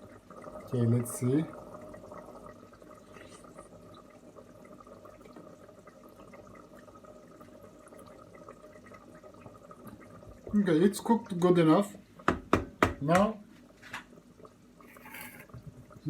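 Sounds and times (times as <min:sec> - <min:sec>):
pot simmering: 0:00.0 - 0:16.0.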